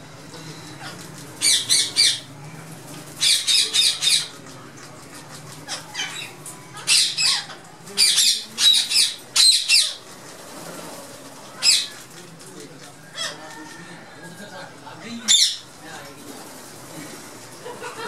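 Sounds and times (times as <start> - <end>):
parakeets squawking: 0.4 - 4.5, 5.2 - 12.2, 13.0 - 13.6, 15.0 - 18.0.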